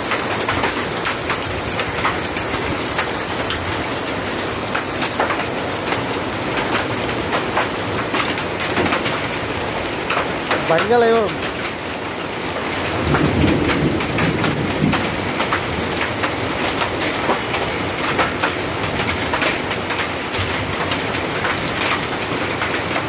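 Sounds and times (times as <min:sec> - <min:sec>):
heavy rain on pavement: 0:00.0 - 0:23.0.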